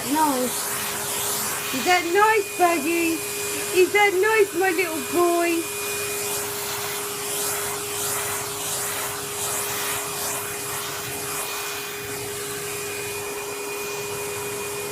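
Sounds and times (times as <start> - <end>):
vacuum cleaner motor whine: 0.0 - 14.9.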